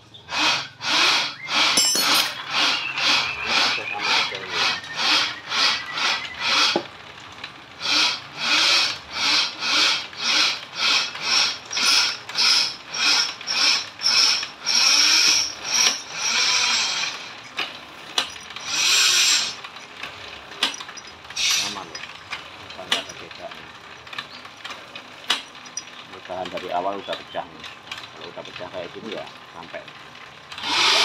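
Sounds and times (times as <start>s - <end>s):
bamboo slicing machine rasping: 0.3s - 7.0s, 7.8s - 22.1s, 22.7s - 29.7s, 30.5s - 31.0s.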